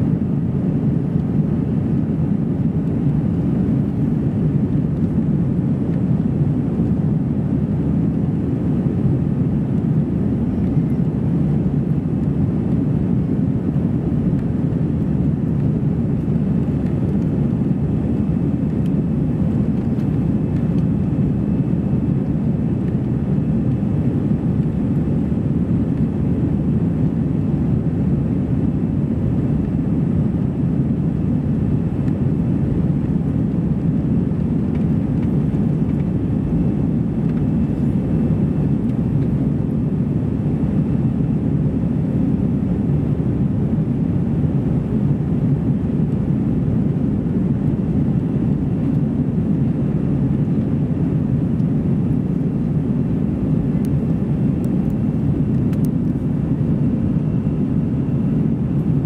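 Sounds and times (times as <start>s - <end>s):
airplane cabin engine roar: 0.0s - 59.0s.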